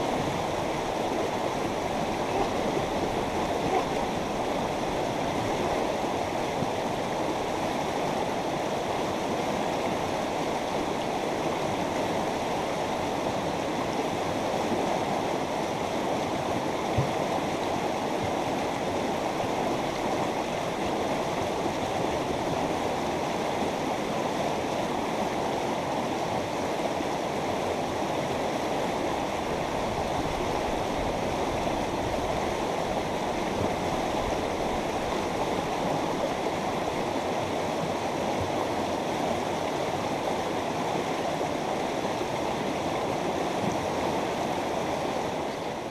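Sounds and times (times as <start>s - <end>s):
river running over rocks: 0.0s - 45.9s.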